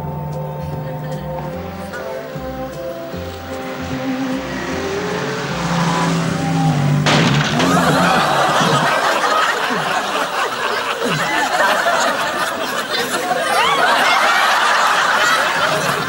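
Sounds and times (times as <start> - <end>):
audience laughing: 0.5 - 16.0.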